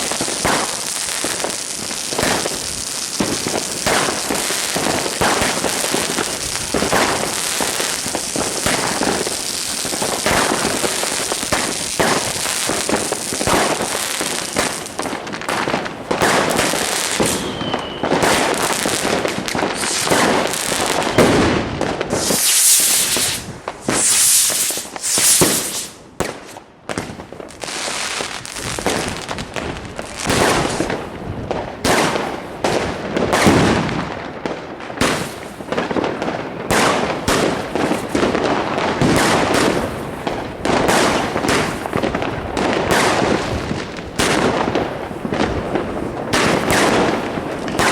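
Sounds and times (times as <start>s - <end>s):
fireworks bangs and crackling: 0.0s - 47.9s
high hissing of fireworks: 0.0s - 47.9s.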